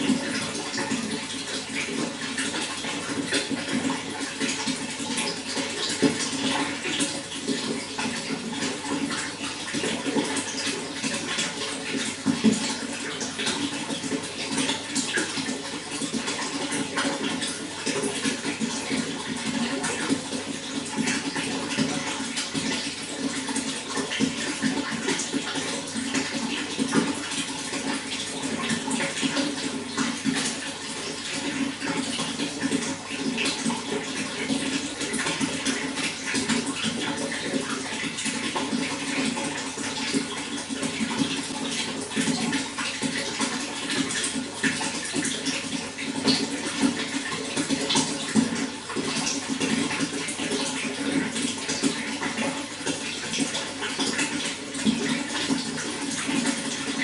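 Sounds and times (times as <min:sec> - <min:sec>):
water running and splashing: 0:00.0 - 0:57.0.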